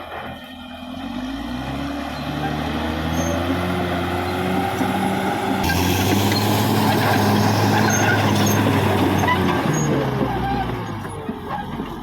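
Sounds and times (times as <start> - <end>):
bulldozer diesel engine under load: 0.0 - 12.0.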